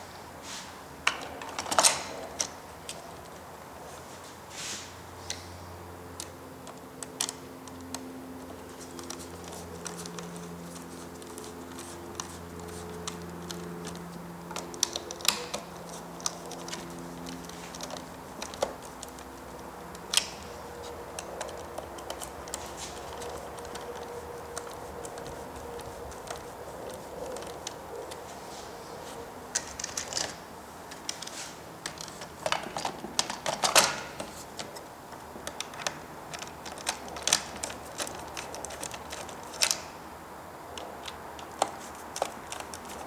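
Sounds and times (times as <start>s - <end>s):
plastic parts clicking and tapping: 6.2s - 28.3s, 29.5s - 39.9s, 40.8s - 43.0s.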